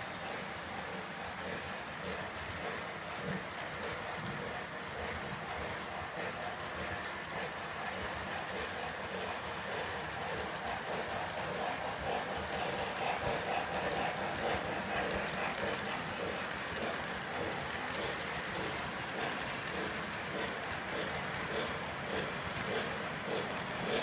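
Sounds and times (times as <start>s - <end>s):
model train rolling on track: 0.0s - 24.0s.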